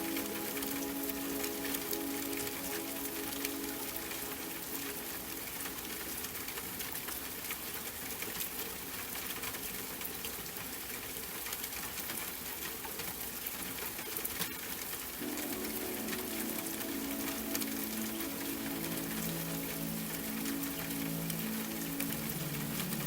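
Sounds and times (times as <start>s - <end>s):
sharp raindrop ticks: 0.0s - 23.0s
steady rain: 0.0s - 23.0s.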